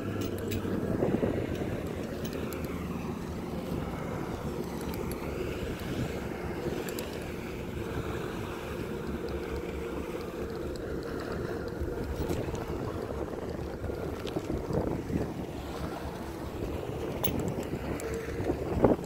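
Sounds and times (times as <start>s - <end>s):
distant motorboat engine drone: 0.0s - 19.0s
wind buffeting microphone: 0.0s - 19.0s.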